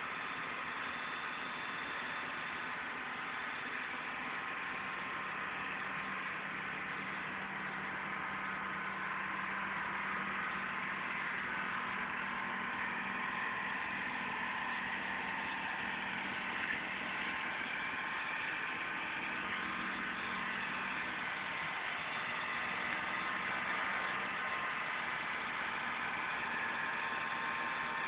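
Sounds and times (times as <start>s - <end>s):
pump engine hum: 0.0s - 28.0s.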